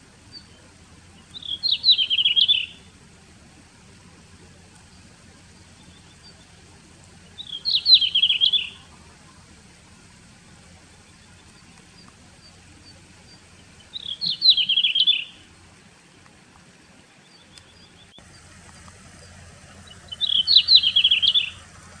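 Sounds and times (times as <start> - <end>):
bird warbling song: 0.0 - 22.0.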